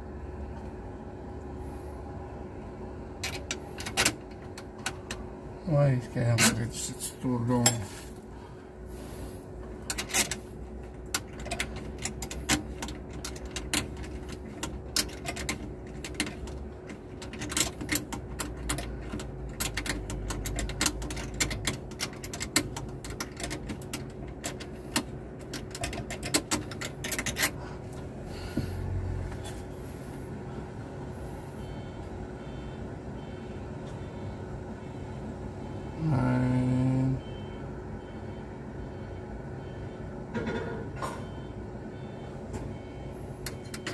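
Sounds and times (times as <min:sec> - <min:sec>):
steady mechanical hum: 0:00.0 - 0:43.9.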